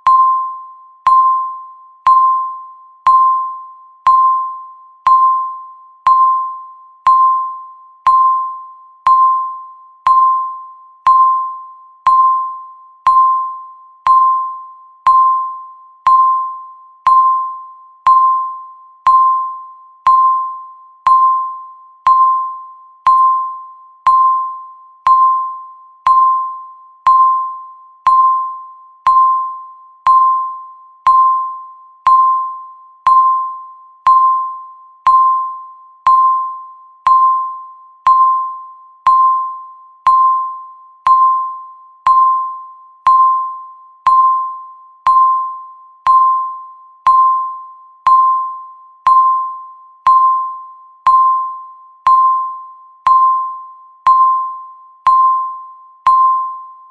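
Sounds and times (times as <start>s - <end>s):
timer ticking with ding: 0.0s - 56.9s.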